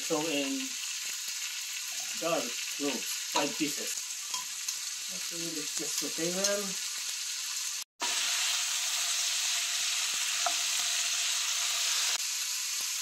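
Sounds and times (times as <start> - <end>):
vegetables sizzling in a pot: 0.0 - 13.0.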